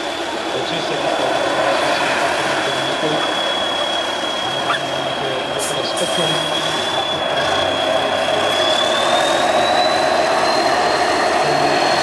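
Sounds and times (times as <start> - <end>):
high whine: 0.0 - 12.0
truck diesel engine running: 0.0 - 12.0.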